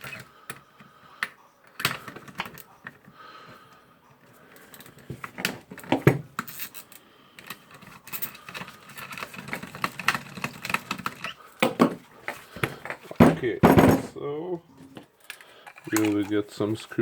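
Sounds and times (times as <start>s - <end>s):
hand tools clicking and scraping: 0.0s - 14.1s, 14.8s - 17.0s.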